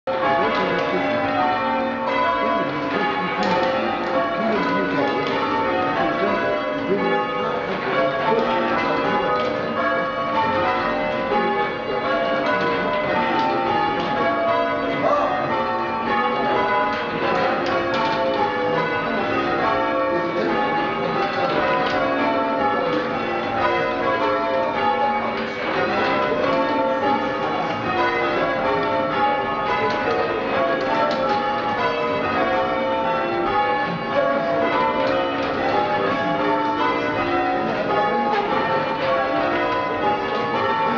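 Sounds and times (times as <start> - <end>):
church bells change ringing: 0.1 - 40.9.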